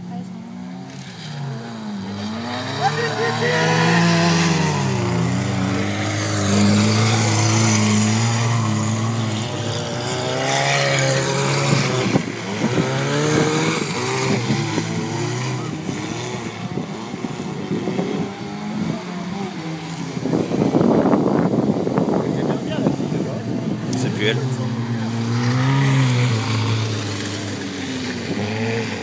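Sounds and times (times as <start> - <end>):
car engine revving hard: 0.4 - 29.0.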